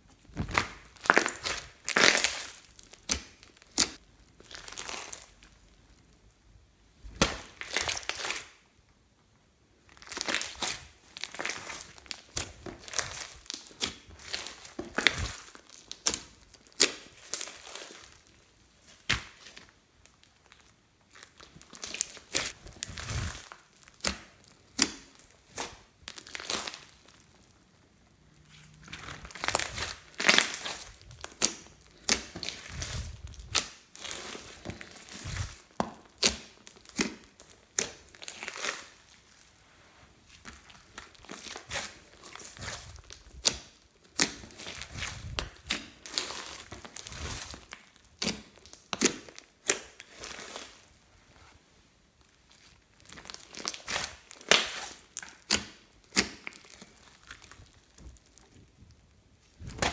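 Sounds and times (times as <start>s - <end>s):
slime crackling and popping: 0.2s - 6.4s, 7.1s - 8.6s, 9.9s - 39.5s, 40.3s - 50.9s, 52.2s - 59.9s.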